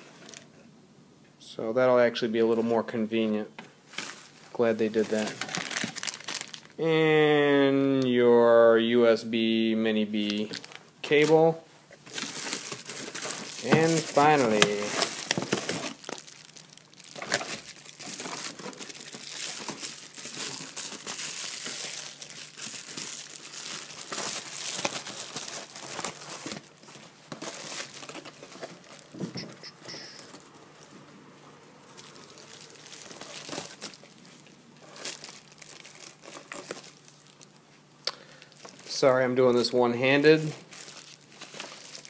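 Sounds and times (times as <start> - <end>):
bubble wrap crinkling: 3.8 - 6.8, 10.2 - 31.0, 31.8 - 42.0.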